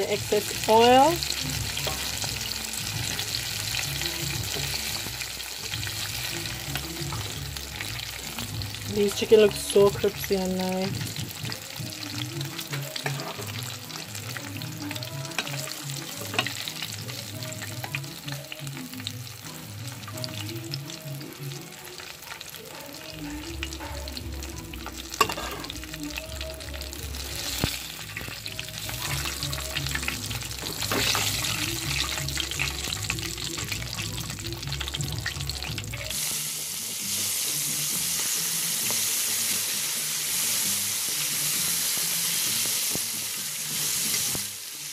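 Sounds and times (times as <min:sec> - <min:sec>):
chicken frying in oil: 0:00.0 - 0:44.9.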